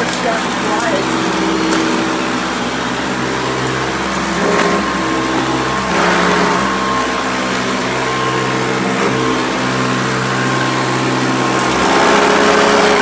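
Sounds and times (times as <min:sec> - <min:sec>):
vacuum cleaner motor hum: 0:00.0 - 0:13.0.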